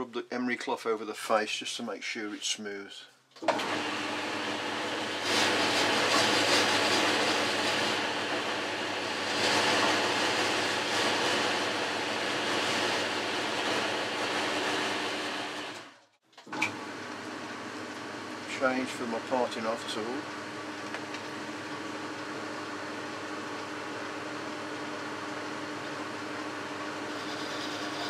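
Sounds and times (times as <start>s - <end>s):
lathe running: 3.5s - 16.0s, 16.6s - 28.0s.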